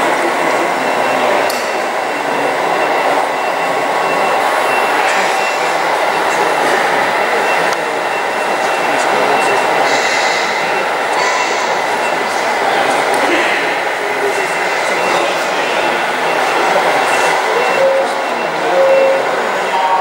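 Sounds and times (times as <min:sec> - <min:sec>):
echoing hall din: 0:00.0 - 0:20.0.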